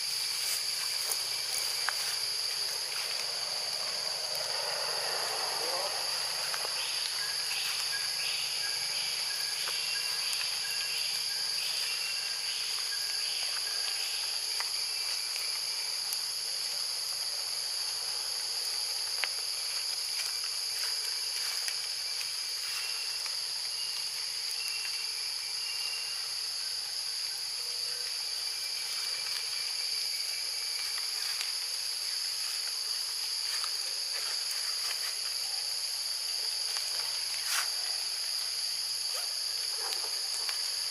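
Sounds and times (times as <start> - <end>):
forest insect chorus: 0.0 - 40.9.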